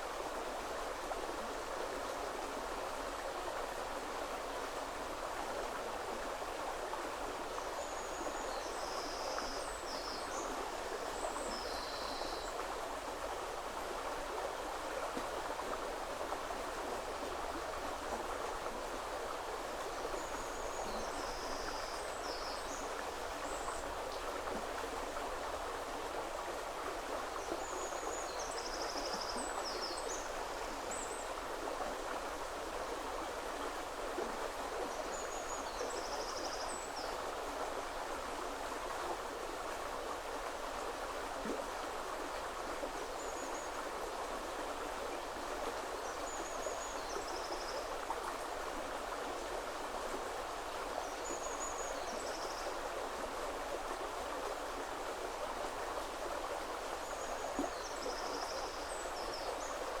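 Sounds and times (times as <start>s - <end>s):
river water flowing: 0.0s - 60.0s.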